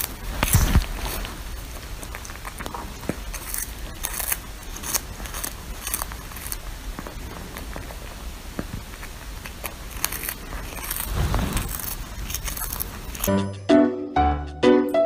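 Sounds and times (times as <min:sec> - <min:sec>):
cat crunching on fish: 0:00.0 - 0:13.4.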